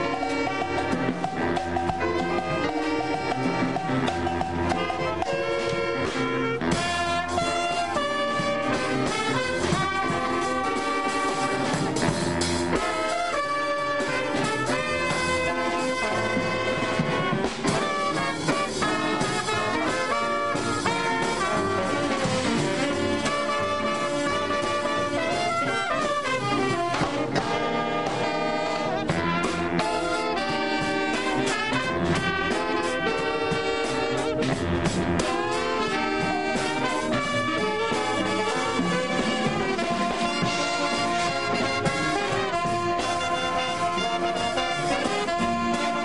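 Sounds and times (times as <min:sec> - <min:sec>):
big band jazz with brass: 0:00.0 - 0:46.0.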